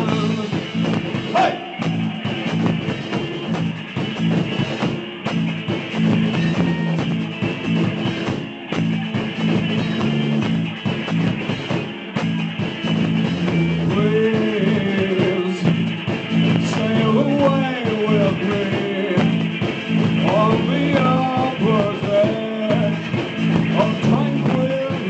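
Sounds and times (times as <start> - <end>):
driving drum kit: 0.0 - 25.0
strummed guitars: 0.0 - 25.0.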